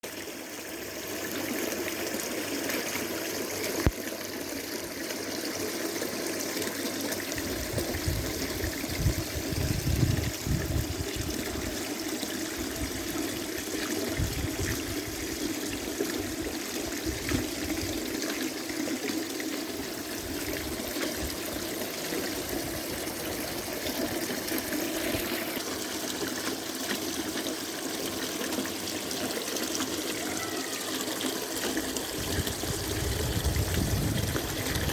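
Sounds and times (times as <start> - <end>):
fountain water trickling: 0.0 - 34.9.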